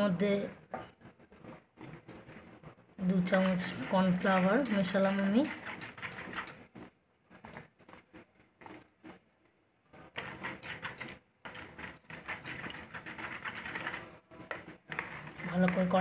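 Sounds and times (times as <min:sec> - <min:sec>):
metal spoon stirring in plastic bowl: 0:01.8 - 0:09.1, 0:10.1 - 0:16.0.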